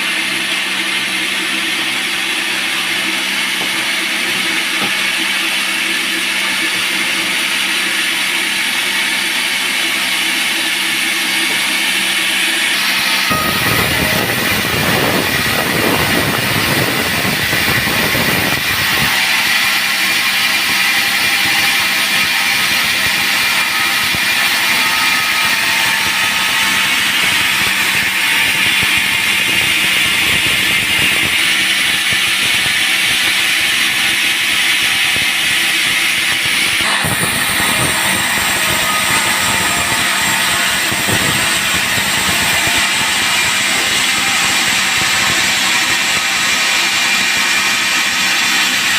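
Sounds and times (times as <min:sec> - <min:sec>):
band saw cutting wood: 0:00.0 - 0:48.9.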